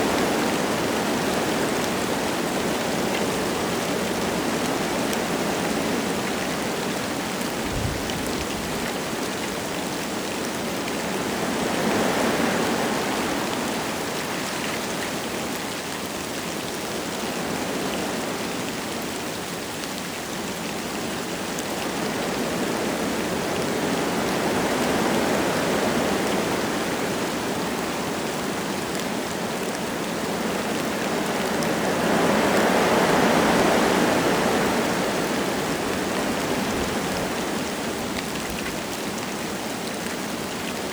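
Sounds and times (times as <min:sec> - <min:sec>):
wind gusting through trees: 0:00.0 - 0:15.6, 0:21.2 - 0:40.9
light rain falling: 0:00.0 - 0:40.9.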